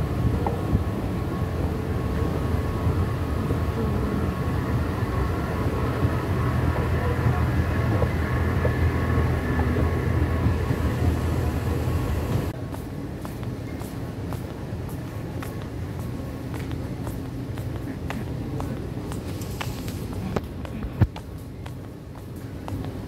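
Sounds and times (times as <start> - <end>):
faint steady tones: 0.0 - 19.5
machinery rumble and hum: 0.0 - 23.0.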